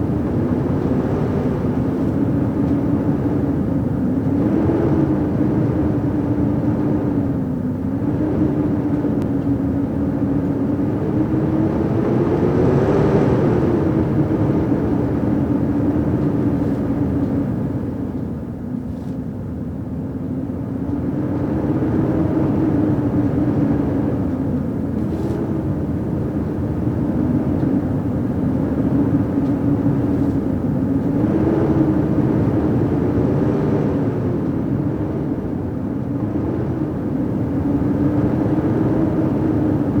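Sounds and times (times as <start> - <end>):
howling blizzard wind: 0.0 - 40.0.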